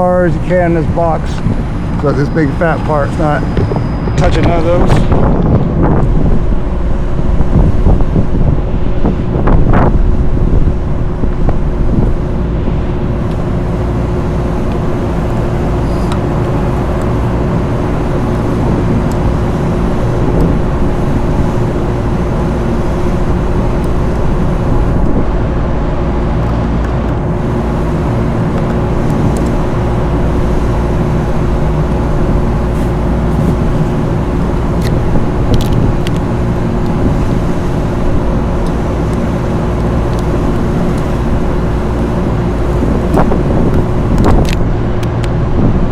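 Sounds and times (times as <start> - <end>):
mechanical drone: 0.0 - 45.9.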